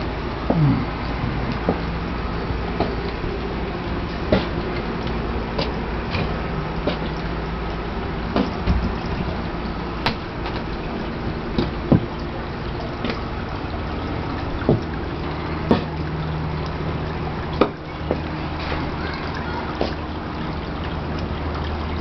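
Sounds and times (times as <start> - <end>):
fountain water trickling and splashing: 0.0 - 22.0
low steady hum: 0.0 - 22.0
water drips plopping: 0.0 - 22.0.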